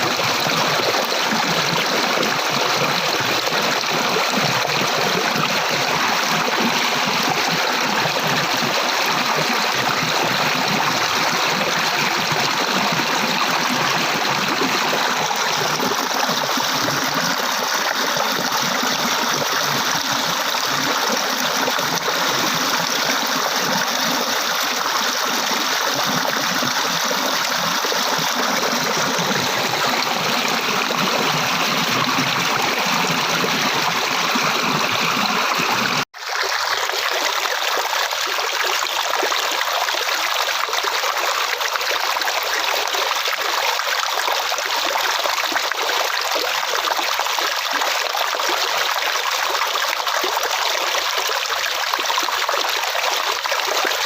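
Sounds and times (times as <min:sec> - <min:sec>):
stream running over stones: 0:00.0 - 0:54.0.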